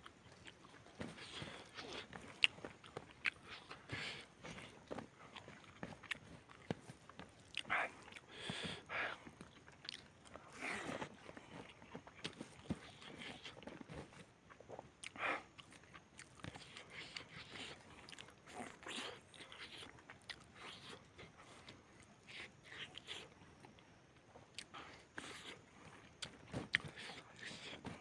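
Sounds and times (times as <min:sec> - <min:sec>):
man chewing food: 0:00.0 - 0:28.0.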